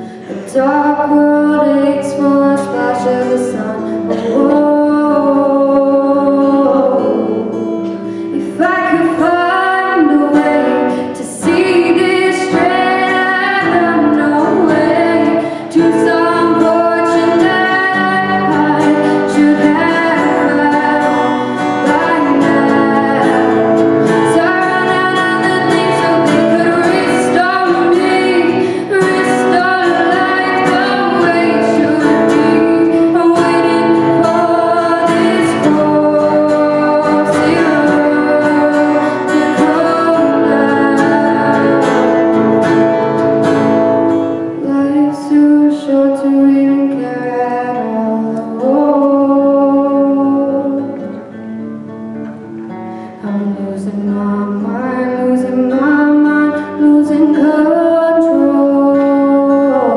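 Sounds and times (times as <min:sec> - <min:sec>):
person singing long notes: 0:00.0 - 0:43.3, 0:44.4 - 0:51.3, 0:53.0 - 0:59.9
strummed guitar: 0:00.0 - 0:59.9.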